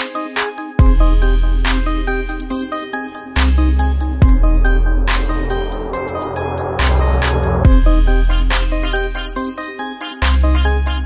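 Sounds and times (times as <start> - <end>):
electronic music with steady beat: 0.0 - 9.7.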